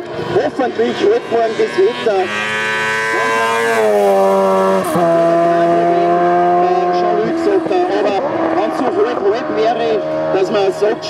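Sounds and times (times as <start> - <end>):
racing engine running hard: 0.0 - 11.0.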